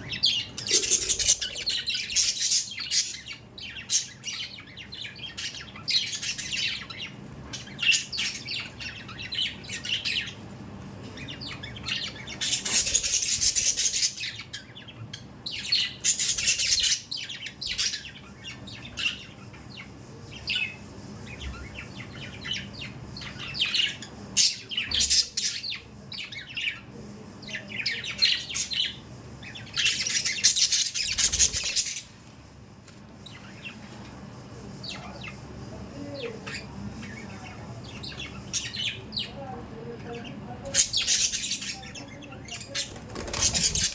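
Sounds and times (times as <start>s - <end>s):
budgerigars chirping and chattering: 0.0s - 32.6s, 33.2s - 43.9s.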